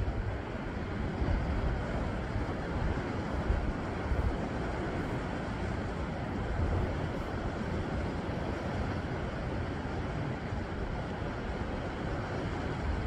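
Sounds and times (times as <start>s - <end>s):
waves washing over rocks: 0.0s - 13.0s
wind rumble on microphone: 0.0s - 13.0s.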